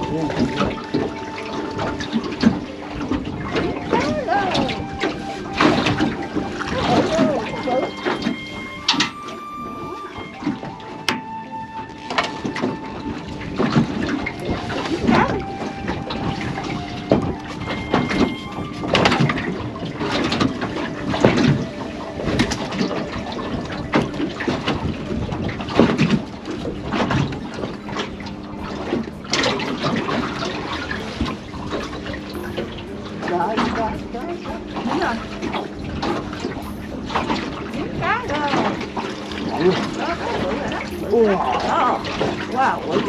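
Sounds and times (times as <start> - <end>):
water splashing and sloshing: 0.0 - 43.0.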